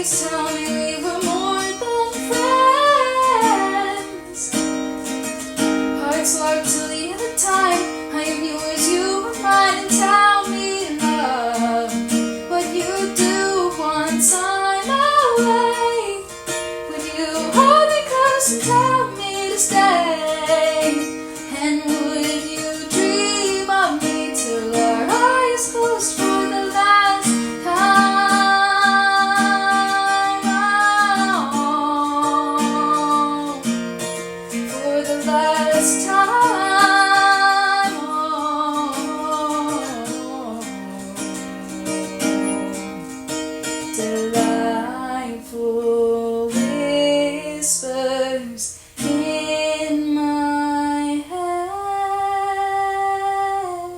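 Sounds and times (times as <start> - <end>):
strummed acoustic string instrument: 0.0 - 50.8
woman singing slow love song: 0.0 - 53.9.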